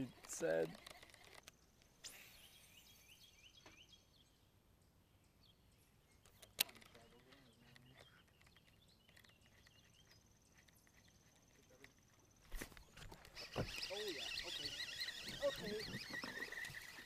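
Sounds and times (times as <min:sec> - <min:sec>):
faint bird chirps: 0:01.4 - 0:17.0.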